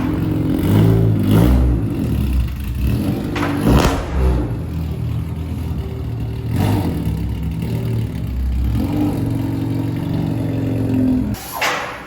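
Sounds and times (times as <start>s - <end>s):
race car engine running: 0.0s - 11.4s.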